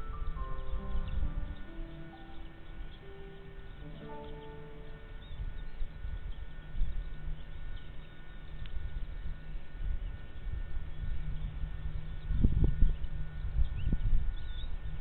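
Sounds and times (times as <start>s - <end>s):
birds chirping: 0.0s - 14.9s
wind buffeting microphone: 0.0s - 15.0s.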